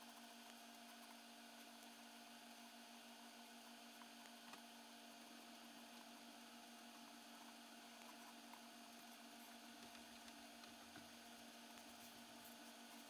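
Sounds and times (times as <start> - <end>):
faint electrical hum and hiss: 0.0 - 13.0.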